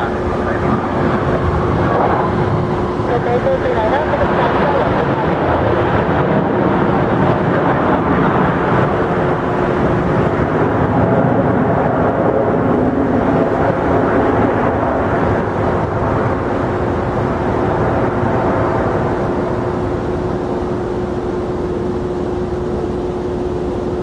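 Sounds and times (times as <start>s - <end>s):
faint steady hum tone: 0.0s - 11.1s, 12.8s - 24.0s
jet engines running loud: 0.0s - 24.0s.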